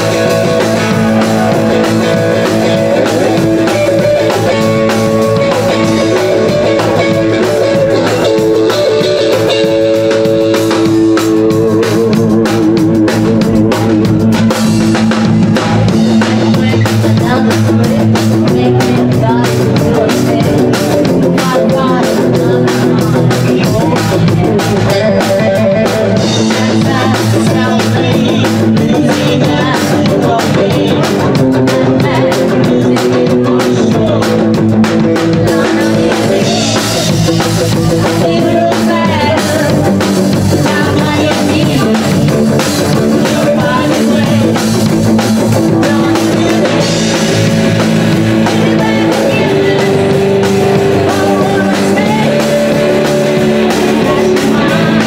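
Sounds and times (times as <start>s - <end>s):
woman singing: 0.0s - 14.6s, 15.6s - 55.0s
rock and roll band playing: 0.0s - 55.0s.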